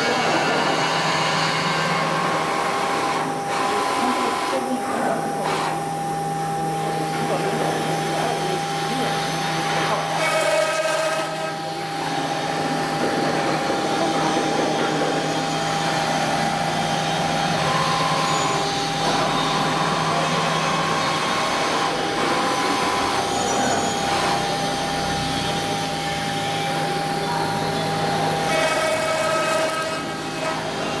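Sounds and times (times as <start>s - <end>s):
cnc router machining: 0.0s - 31.0s
spindle whine: 0.0s - 31.0s.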